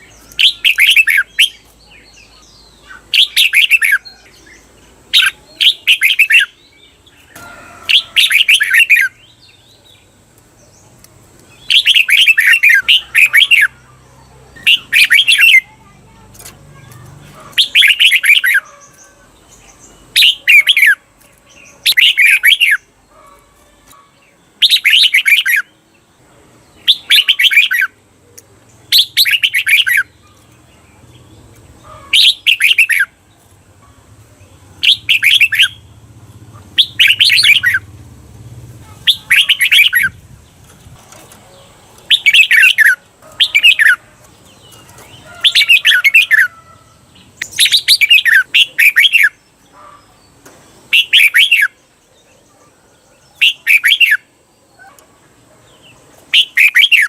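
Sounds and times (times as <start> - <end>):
bulbul singing warbled phrases: 0.0 - 57.0.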